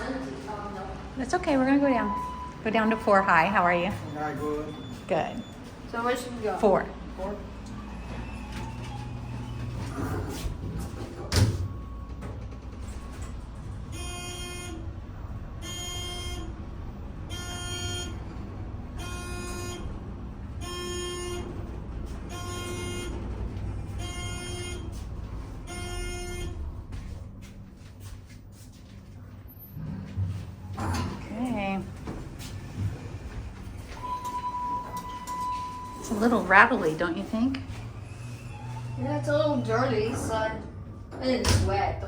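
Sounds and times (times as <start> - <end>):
elevator descending rumble: 0.0 - 28.3, 28.9 - 42.0.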